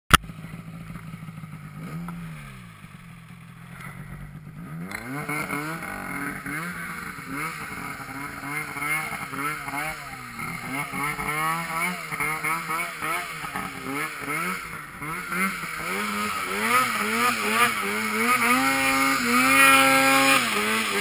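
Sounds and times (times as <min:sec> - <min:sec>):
snowmobile engine revving: 0:00.3 - 0:21.0.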